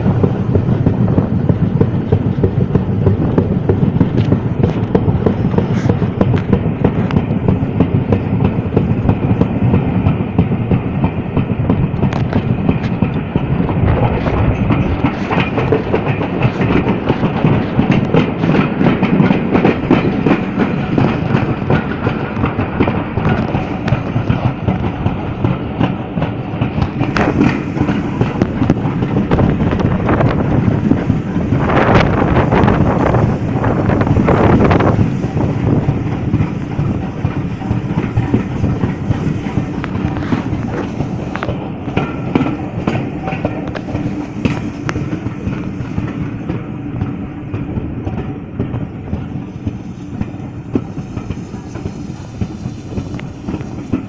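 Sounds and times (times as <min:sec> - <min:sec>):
train rumbling on track: 0:00.0 - 0:54.0
wheels clicking over rail joints: 0:00.0 - 0:54.0.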